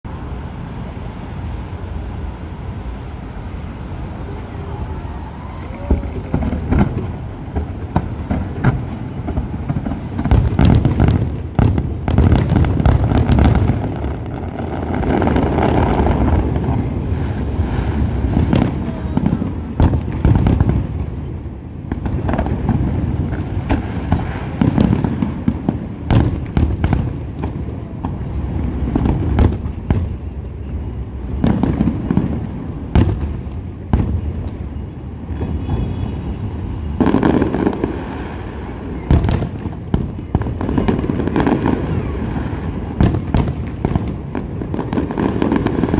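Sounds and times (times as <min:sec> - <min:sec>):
fireworks bursting: 0:00.1 - 0:45.9.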